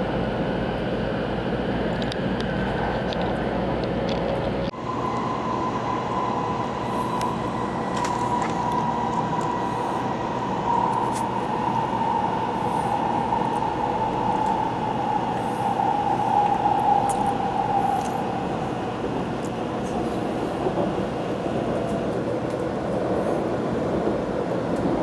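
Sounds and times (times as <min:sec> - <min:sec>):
train rumble and rush: 0:00.0 - 0:25.0.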